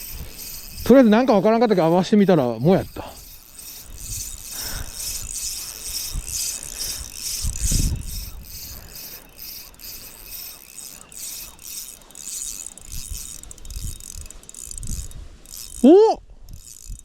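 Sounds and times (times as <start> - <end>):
wind buffeting microphone: 0.0 - 10.4, 12.8 - 17.0
fishing reel ticking: 0.0 - 17.0.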